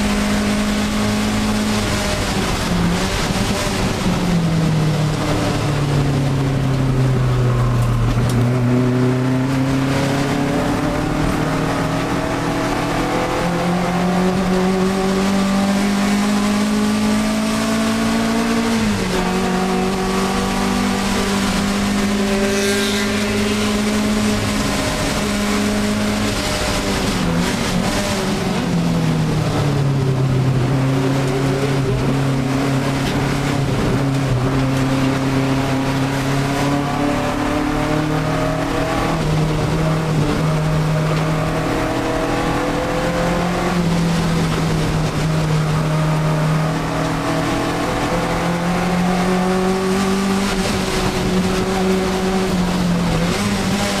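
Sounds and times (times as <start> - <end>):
car engine at racing speed: 0.0 - 54.0.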